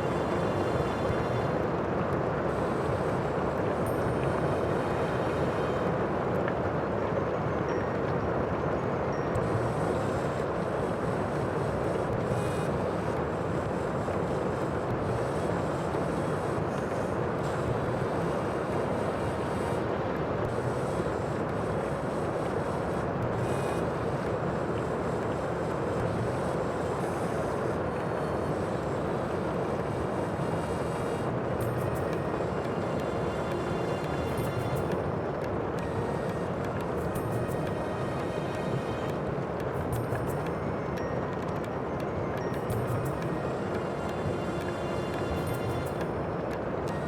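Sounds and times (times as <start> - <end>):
wind: 0.0 - 47.0.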